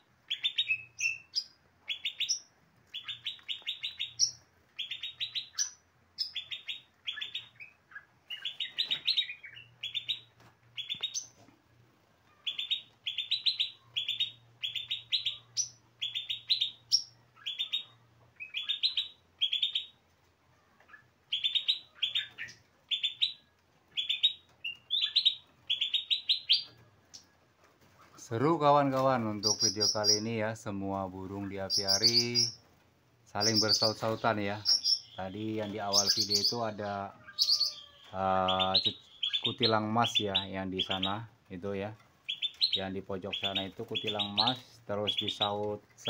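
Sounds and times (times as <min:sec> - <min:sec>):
small songbirds chirping: 0:00.0 - 0:11.4, 0:12.3 - 0:20.0, 0:20.6 - 0:27.4, 0:28.2 - 0:32.6, 0:33.2 - 0:46.0.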